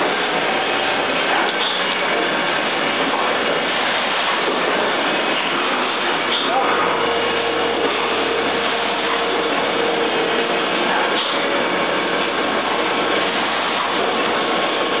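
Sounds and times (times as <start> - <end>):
machinery running: 0.0 - 15.0.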